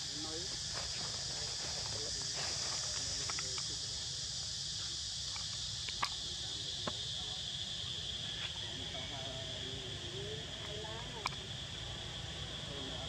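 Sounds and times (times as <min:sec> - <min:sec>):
forest insects chorus: 0:00.0 - 0:13.0.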